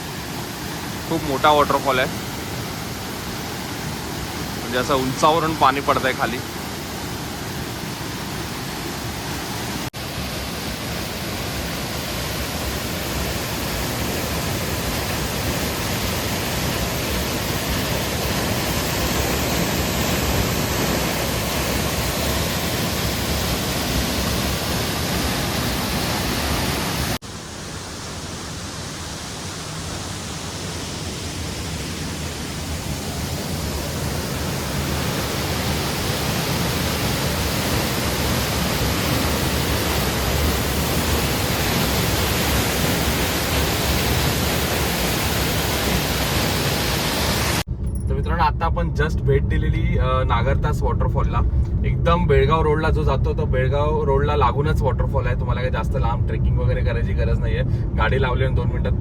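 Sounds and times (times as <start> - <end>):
waterfall rushing: 0.0 - 47.7.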